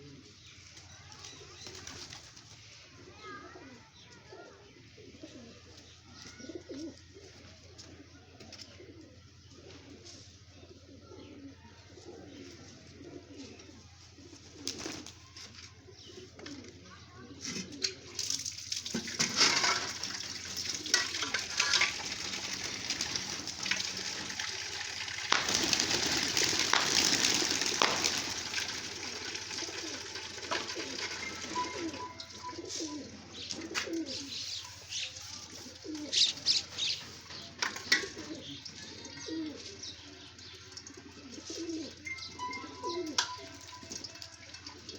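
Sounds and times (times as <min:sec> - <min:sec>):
pigeons cooing: 0:00.0 - 0:00.6, 0:03.2 - 0:18.5, 0:19.2 - 0:44.9.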